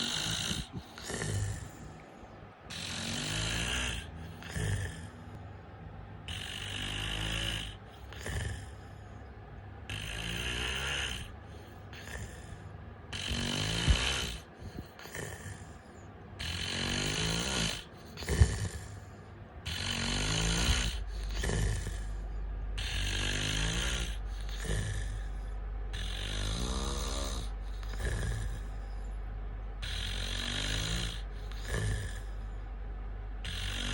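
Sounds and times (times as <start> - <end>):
man snoring: 0.0 - 2.0, 2.7 - 5.4, 6.2 - 9.0, 9.8 - 22.2, 22.8 - 29.0, 29.8 - 32.5, 33.4 - 33.9.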